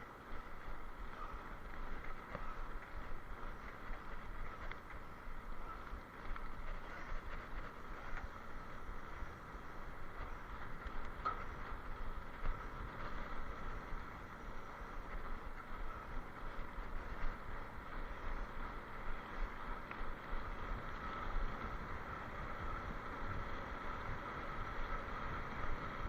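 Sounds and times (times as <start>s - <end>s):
wind rushing on microphone: 0.0s - 26.0s.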